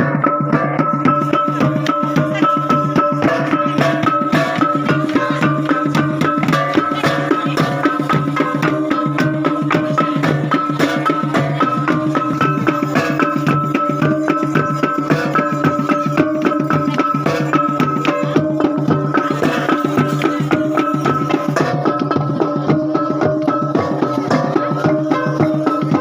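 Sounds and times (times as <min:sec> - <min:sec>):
fast drum strokes: 0:00.0 - 0:26.0.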